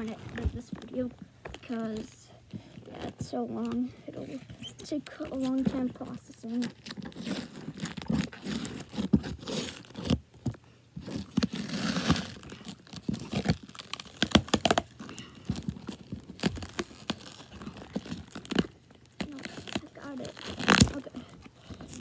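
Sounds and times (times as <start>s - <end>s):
cardboard clicks and scrapes: 0.0s - 22.0s
plastic wrap crinkling and tearing: 0.0s - 22.0s.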